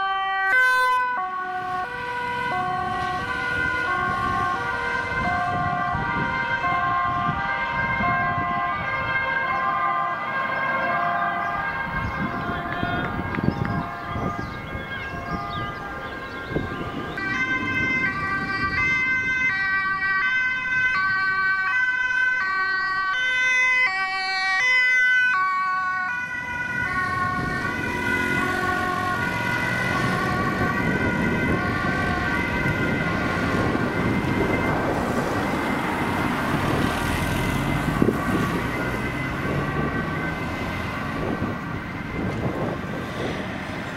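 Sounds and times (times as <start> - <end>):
ambulance two-tone siren: 0.0 - 43.9
engine and road noise: 0.0 - 43.9
police car siren: 0.0 - 43.9.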